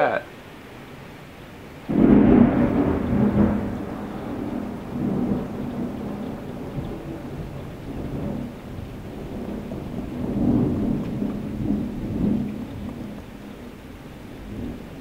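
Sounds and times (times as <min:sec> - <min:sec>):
steady rain falling: 0:00.0 - 0:15.0
thunder rumbling: 0:01.8 - 0:15.0.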